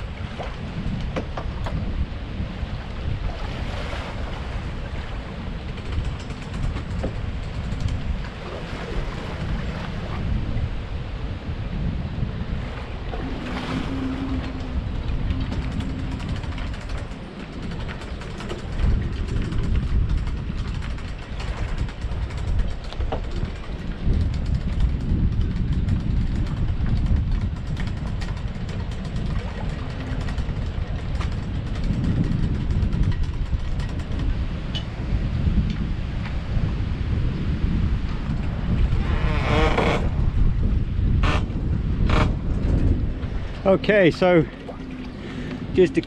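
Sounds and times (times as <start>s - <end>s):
wind buffeting microphone: 0.0s - 46.0s
water lapping: 2.6s - 11.3s, 12.4s - 40.5s, 41.1s - 46.0s.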